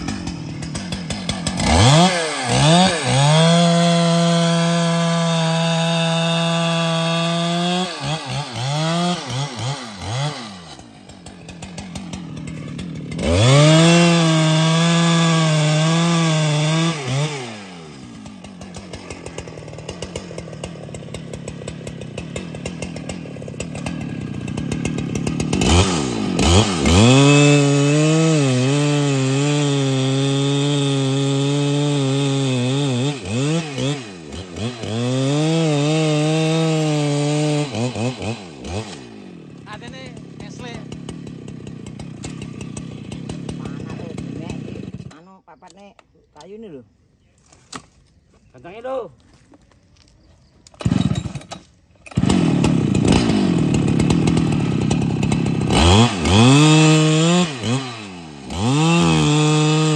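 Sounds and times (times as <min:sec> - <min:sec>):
chainsaw cutting wood: 0:00.0 - 0:46.7, 0:50.7 - 0:59.9.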